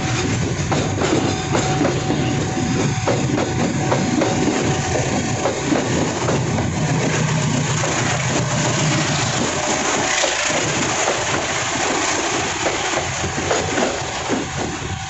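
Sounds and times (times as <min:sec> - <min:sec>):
freight train rolling past: 0:00.0 - 0:15.0
passenger train passing: 0:00.0 - 0:15.0.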